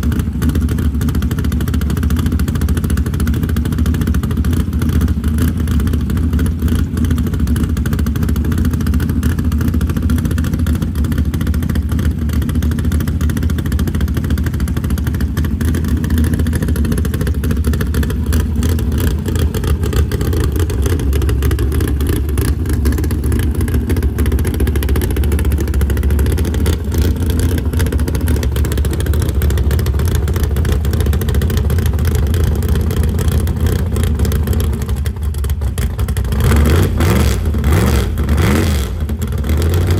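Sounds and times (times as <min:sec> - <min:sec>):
truck engine idling loudly: 0:00.0 - 0:39.9.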